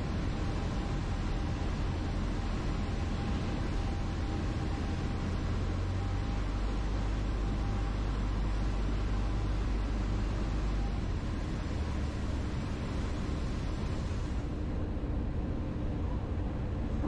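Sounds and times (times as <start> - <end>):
small plane engine drone: 0.0 - 17.0.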